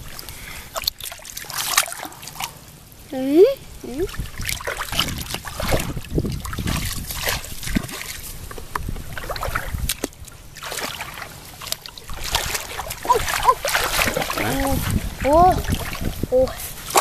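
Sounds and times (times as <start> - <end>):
water splashing from wading: 0.0 - 17.0.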